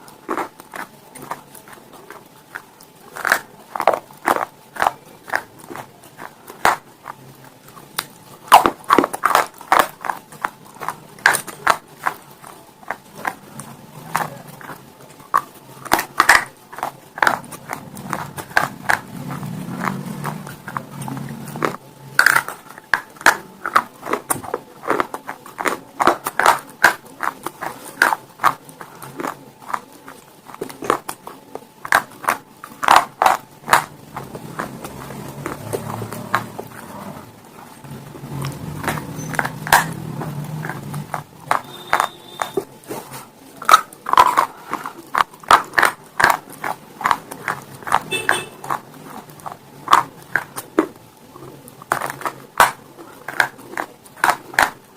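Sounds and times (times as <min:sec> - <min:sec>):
crunching stone pieces: 0:00.0 - 0:54.9.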